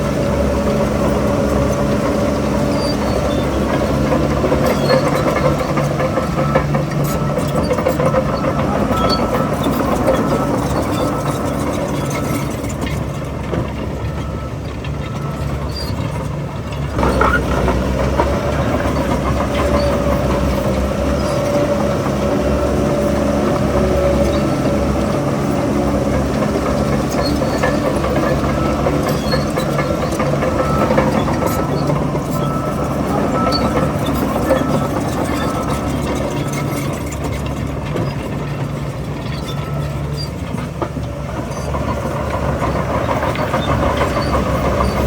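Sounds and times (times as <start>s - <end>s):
bulldozer diesel engine running: 0.0s - 45.0s
track clatter: 0.0s - 45.0s.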